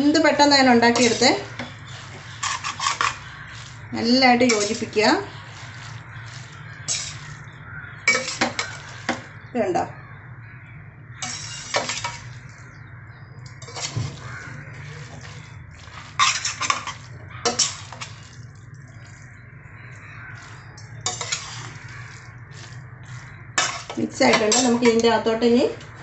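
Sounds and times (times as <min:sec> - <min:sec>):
utensil scraping a pan: 0:00.6 - 0:09.4, 0:11.2 - 0:12.7, 0:13.5 - 0:26.0.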